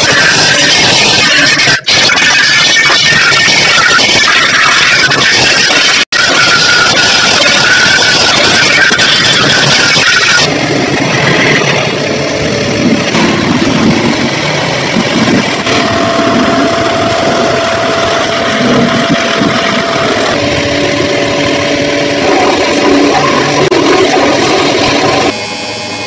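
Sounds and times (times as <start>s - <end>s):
pressure washer machine drone: 0.0s - 26.0s.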